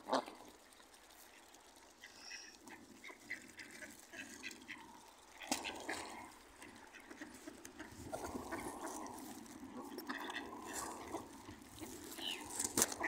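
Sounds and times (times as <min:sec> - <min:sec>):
ducks quacking and geese honking: 0:01.2 - 0:13.0.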